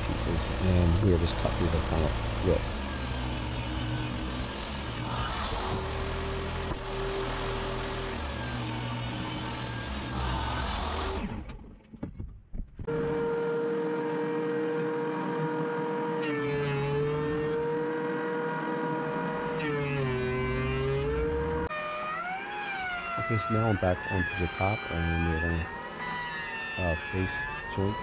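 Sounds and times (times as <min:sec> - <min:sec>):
thickness planer whining: 0:00.0 - 0:11.7, 0:12.9 - 0:28.0.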